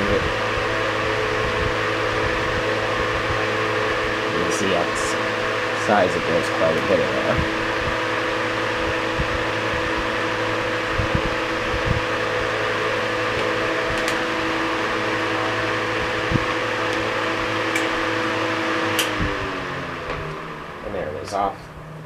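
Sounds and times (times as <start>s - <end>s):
table fan running: 0.0s - 22.0s.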